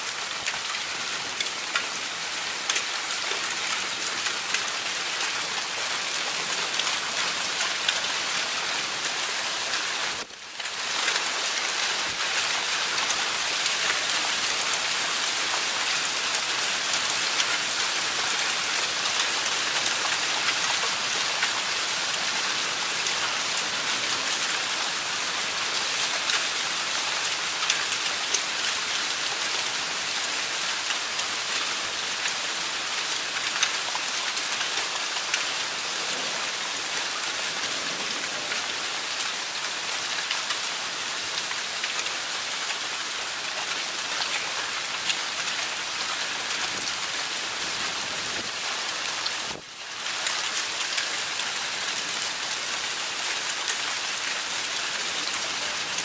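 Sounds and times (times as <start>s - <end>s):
heavy rain pouring: 0.0s - 56.0s
rain and hail on roof shingles: 0.0s - 56.0s.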